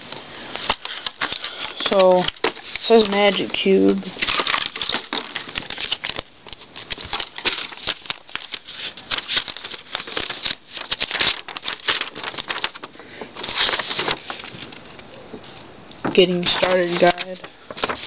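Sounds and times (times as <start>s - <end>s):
paper leaflet rustling: 0.0s - 18.0s
plastic packaging crinkling: 0.1s - 18.0s.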